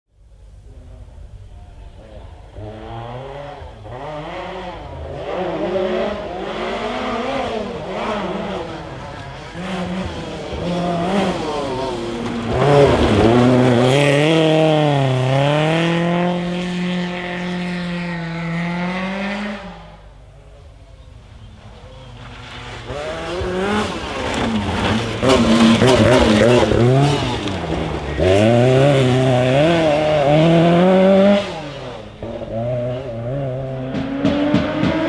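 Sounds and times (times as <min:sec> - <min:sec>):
rally car engine revving: 0:00.6 - 0:35.0.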